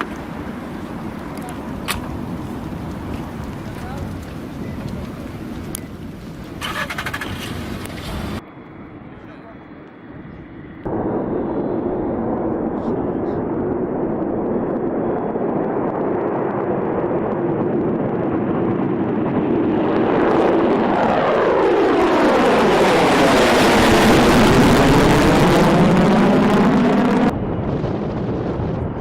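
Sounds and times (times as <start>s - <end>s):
jet aircraft passing: 0.0s - 29.0s.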